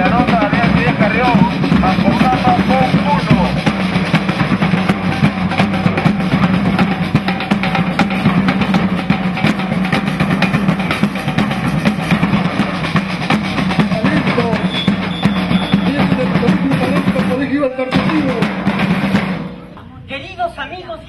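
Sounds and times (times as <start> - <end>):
drum-driven music: 0.0 - 20.0.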